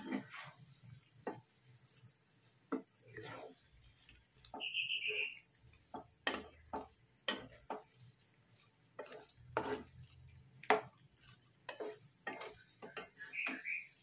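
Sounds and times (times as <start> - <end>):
spatula scraping shrimp in a pan: 0.0 - 14.0.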